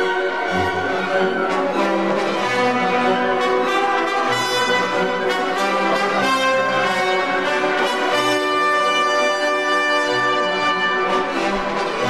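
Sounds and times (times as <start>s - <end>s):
sustained brass chords: 0.0s - 12.0s.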